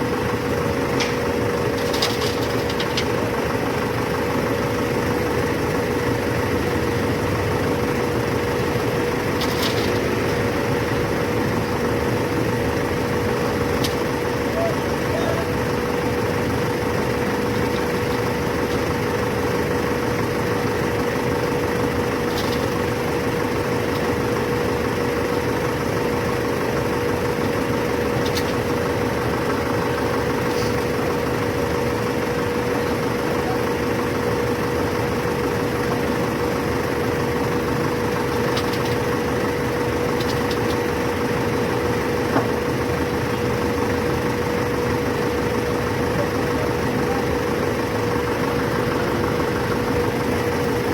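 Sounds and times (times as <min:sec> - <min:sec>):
heavy machinery engine running: 0:00.0 - 0:50.9.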